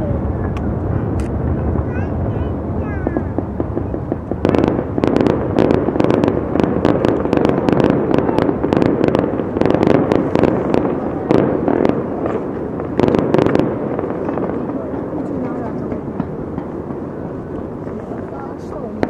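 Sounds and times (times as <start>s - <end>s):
steady rumbling haze: 0.0s - 19.0s
fireworks cracks and pops: 0.4s - 19.0s.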